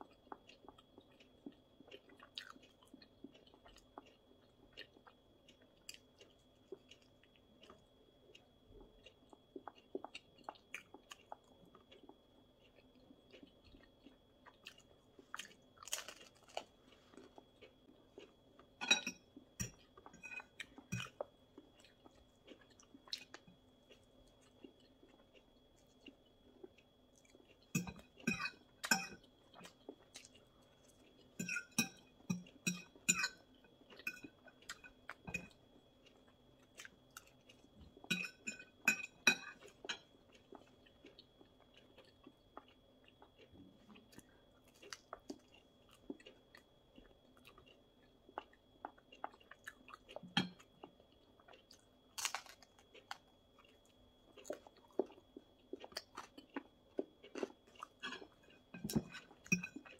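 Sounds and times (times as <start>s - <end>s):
chewing and crunching crisp crust: 0.0s - 59.9s.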